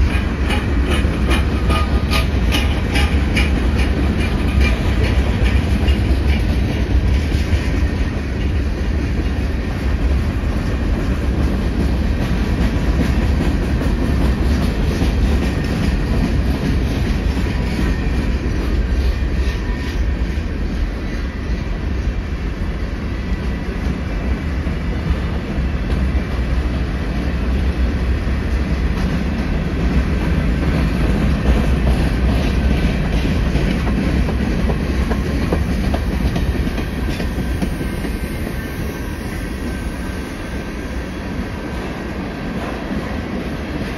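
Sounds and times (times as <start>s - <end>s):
train wheels rumbling on rails: 0.0s - 43.9s
wheels clickety-clack on rail joints: 0.0s - 43.9s.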